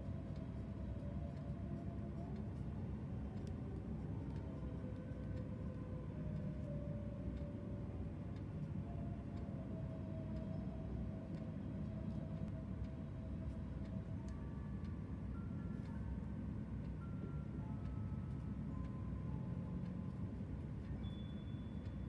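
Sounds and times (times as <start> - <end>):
soft background music: 0.0 - 22.0
steady low hum: 0.0 - 22.0.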